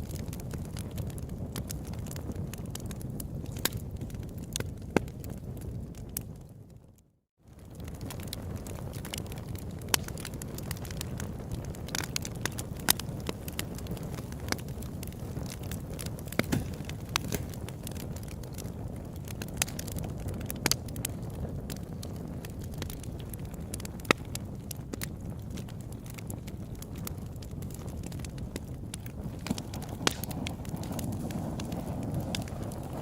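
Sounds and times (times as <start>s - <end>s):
campfire flames rushing: 0.0s - 6.8s, 7.4s - 33.0s
fire crackles and pops: 0.0s - 33.0s.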